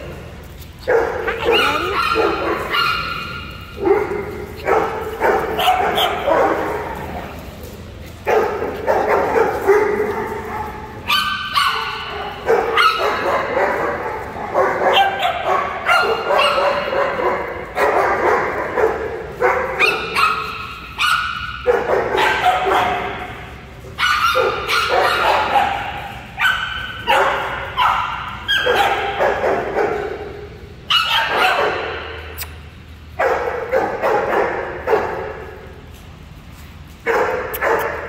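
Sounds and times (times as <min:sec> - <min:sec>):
small dogs barking and yipping: 0:00.8 - 0:07.4, 0:08.2 - 0:32.5.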